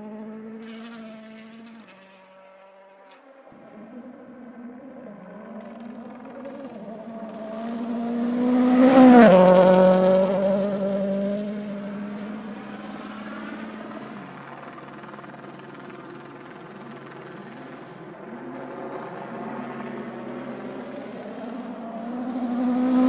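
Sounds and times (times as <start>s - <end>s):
rally car engine passing at speed: 0.0s - 14.7s, 17.3s - 23.0s.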